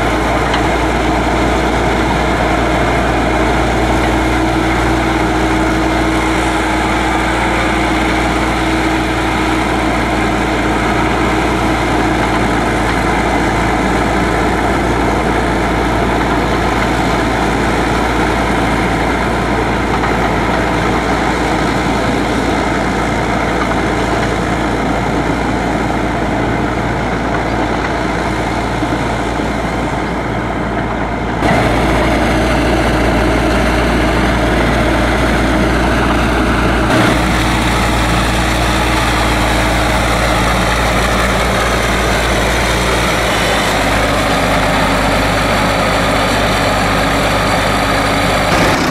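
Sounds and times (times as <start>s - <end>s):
crawler tractor engine running: 0.0s - 48.9s.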